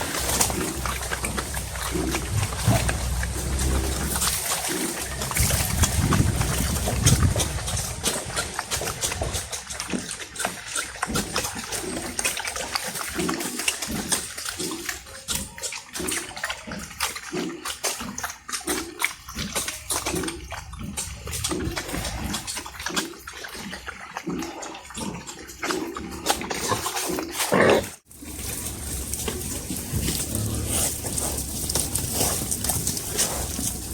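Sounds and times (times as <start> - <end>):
pigs chewing and smacking: 0.0 - 33.9
pigs grunting: 0.0 - 33.9.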